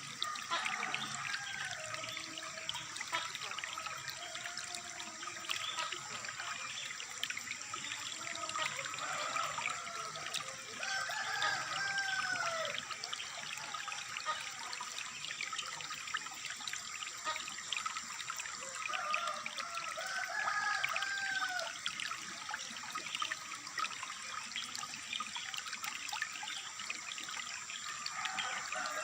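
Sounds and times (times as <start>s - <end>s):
water trickling and splashing: 0.0s - 29.0s.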